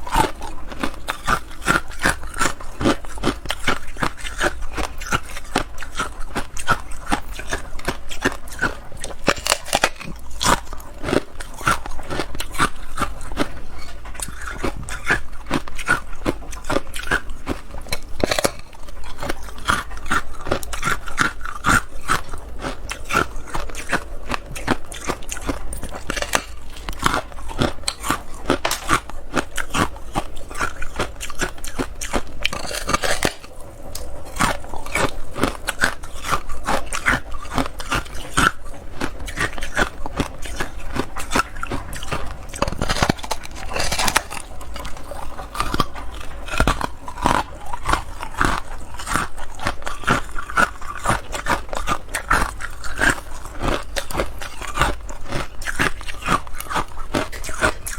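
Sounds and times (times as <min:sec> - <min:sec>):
ice being crunched and chewed: 0:00.0 - 0:57.9.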